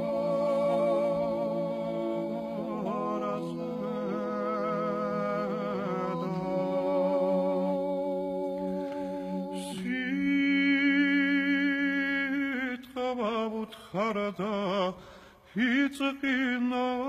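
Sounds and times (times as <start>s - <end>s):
men's chorus singing a cappella: 0.0s - 17.0s.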